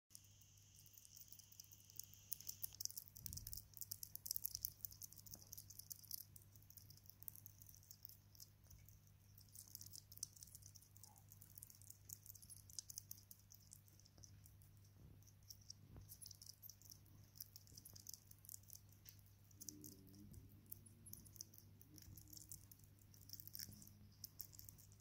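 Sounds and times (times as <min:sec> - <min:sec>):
hedgehog chewing wet food: 0:00.1 - 0:25.0
low steady hum: 0:00.1 - 0:25.0.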